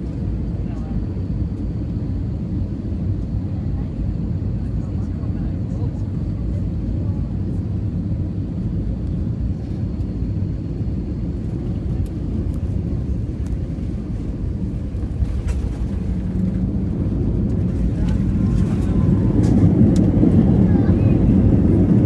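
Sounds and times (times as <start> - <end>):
airliner cabin engine rumble: 0.0 - 22.0.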